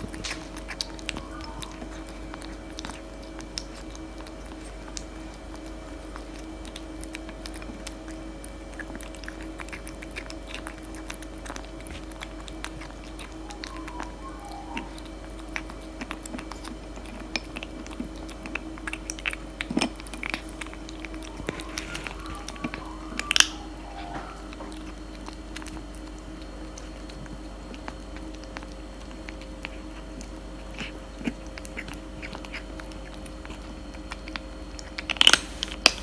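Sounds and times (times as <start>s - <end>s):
kitten crunching dry kibble: 0.0s - 36.0s.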